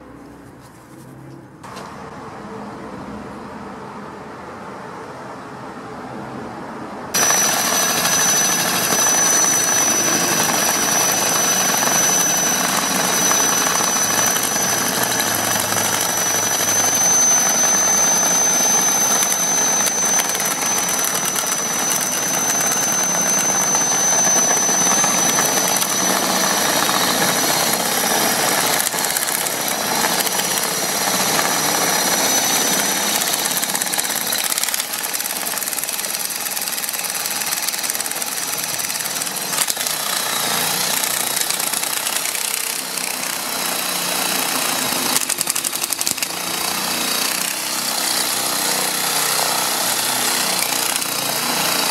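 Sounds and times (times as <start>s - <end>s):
impact wrench rattling and whining: 7.1s - 51.9s.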